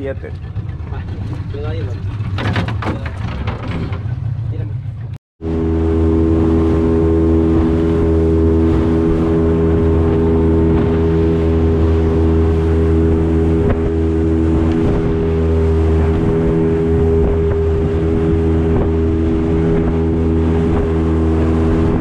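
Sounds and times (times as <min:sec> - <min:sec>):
outboard motor running: 0:00.0 - 0:22.0
water wash: 0:00.0 - 0:22.0
wind: 0:00.0 - 0:22.0.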